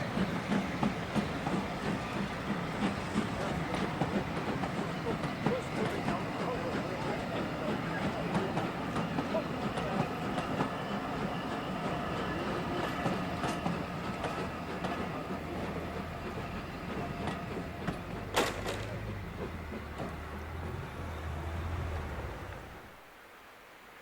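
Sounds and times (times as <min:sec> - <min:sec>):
wheels clicking over rail joints: 0:00.0 - 0:23.0
train rolling on track: 0:00.0 - 0:23.2.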